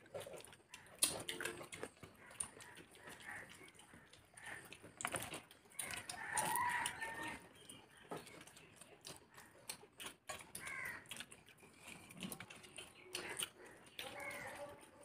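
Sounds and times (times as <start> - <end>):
chewing and lip smacks: 0.0 - 15.0.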